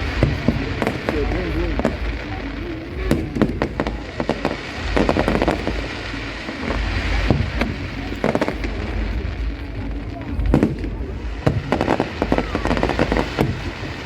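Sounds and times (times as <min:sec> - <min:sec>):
continuous low rumble: 0:00.0 - 0:14.0
fireworks bangs and crackling: 0:00.0 - 0:14.0.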